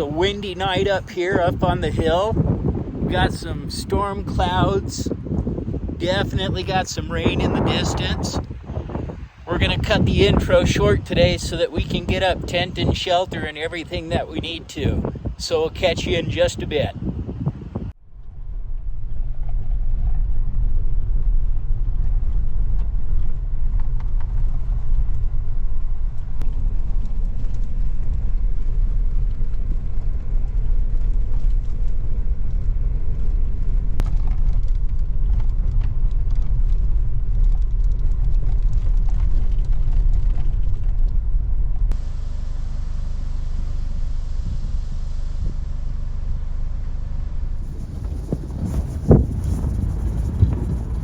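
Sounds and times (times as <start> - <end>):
wind buffeting microphone: 0.0 - 42.1, 47.6 - 51.0.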